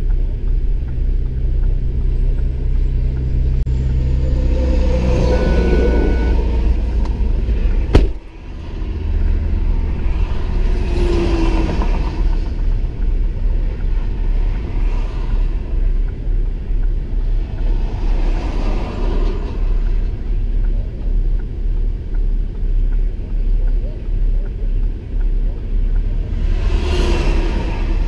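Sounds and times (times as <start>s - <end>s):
low vehicle rumble: 0.0s - 28.0s
passing road traffic: 0.0s - 28.0s.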